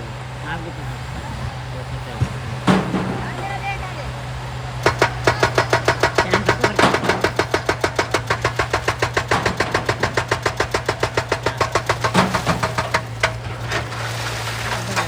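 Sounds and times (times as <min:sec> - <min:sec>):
engine hum: 0:00.0 - 0:15.0
hydraulic breaker hammering rock: 0:00.0 - 0:15.0.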